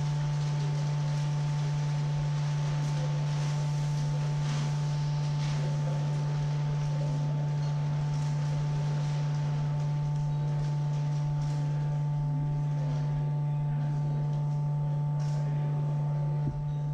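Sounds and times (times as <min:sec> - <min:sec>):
low drone tone: 0:00.0 - 0:16.9.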